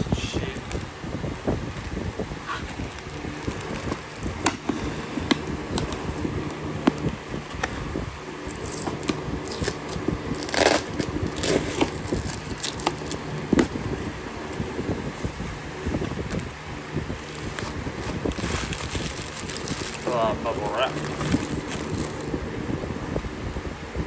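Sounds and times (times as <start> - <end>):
bubble wrap rustling: 0.0 - 22.4
low rumble: 0.0 - 23.6.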